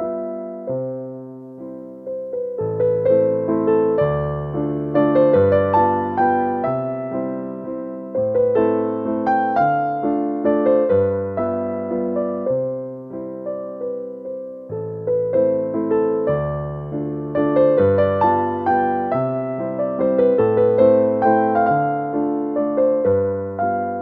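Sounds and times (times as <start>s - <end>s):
slow piano music: 0.0s - 24.0s.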